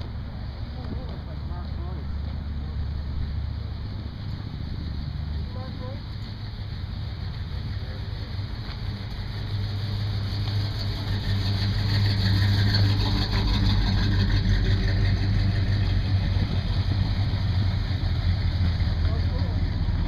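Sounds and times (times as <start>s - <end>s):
car engines driving past: 0.0s - 20.0s.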